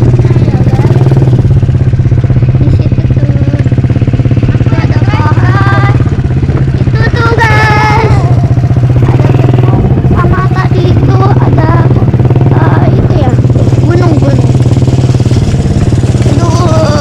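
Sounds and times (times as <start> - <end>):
small engine running: 0.0 - 17.0
voices calling out: 0.0 - 17.0.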